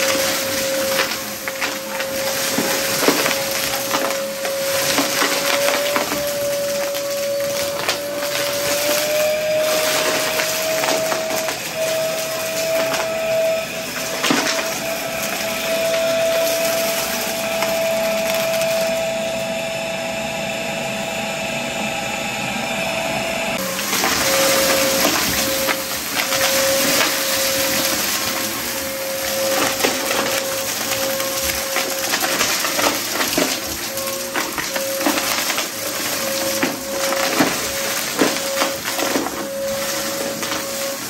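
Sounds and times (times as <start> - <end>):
debris crackling in vacuum: 0.0 - 19.7, 23.6 - 41.0
vacuum cleaner whine: 0.0 - 41.0.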